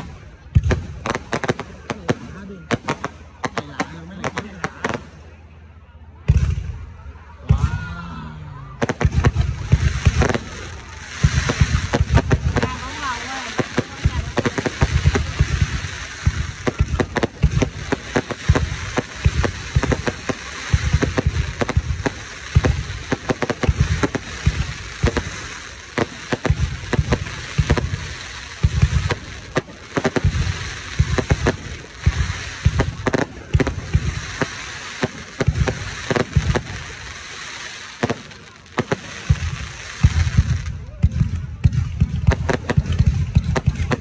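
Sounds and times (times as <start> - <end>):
fireworks bangs: 0.0 - 5.5, 6.2 - 7.9, 8.7 - 44.0
fireworks crackling: 0.0 - 5.6, 6.2 - 44.0.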